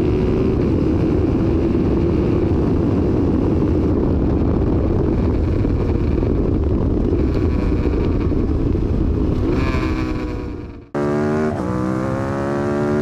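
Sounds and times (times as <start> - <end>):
muffled motorcycle engine: 0.0 - 13.0
wind noise on microphone: 0.0 - 13.0.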